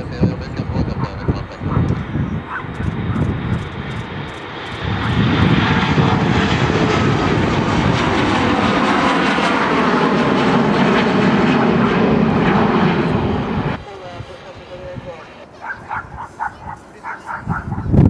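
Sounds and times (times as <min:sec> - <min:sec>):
airliner engine roar overhead: 0:00.0 - 0:18.0.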